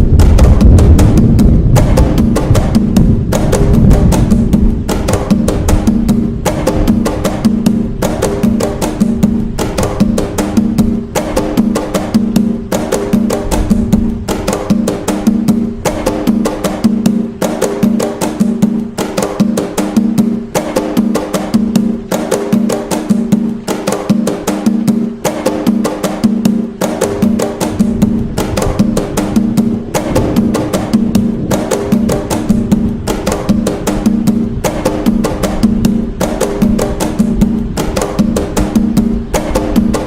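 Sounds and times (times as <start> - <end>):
hand drums playing a rhythm: 0.0 - 40.0.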